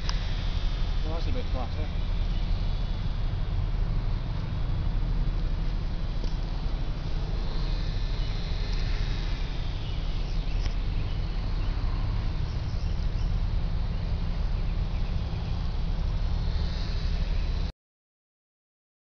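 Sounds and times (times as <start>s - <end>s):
birds chirping: 0.0s - 17.7s
insects chirping: 0.0s - 17.7s
wind rumbling on microphone: 0.0s - 17.7s.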